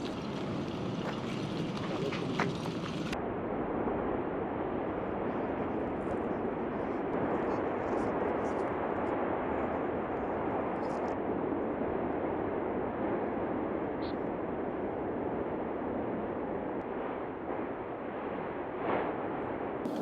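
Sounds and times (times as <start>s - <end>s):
volcanic eruption rushing: 0.0s - 20.0s.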